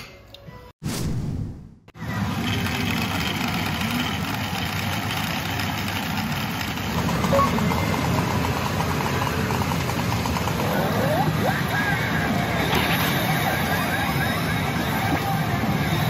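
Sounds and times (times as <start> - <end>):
many pachinko machines running: 2.0 - 16.0.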